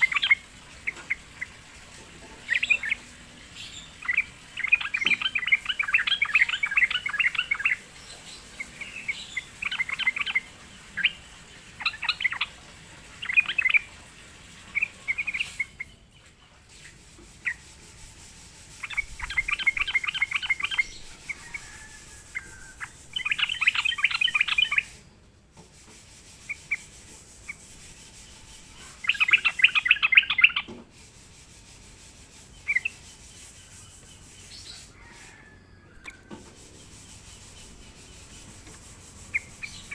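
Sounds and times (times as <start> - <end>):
bird song chattering: 0.0 - 16.3, 18.6 - 25.3, 26.4 - 30.7, 32.3 - 35.1, 35.7 - 39.9.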